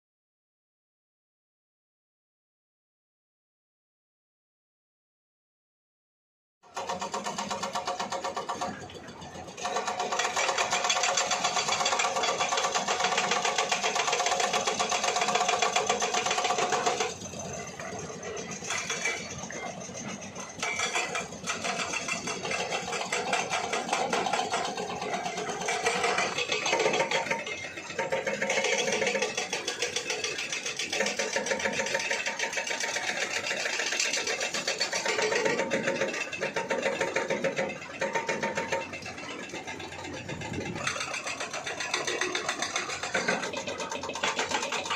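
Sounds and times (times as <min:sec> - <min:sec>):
engine running with fast chatter: 0:06.6 - 0:44.9.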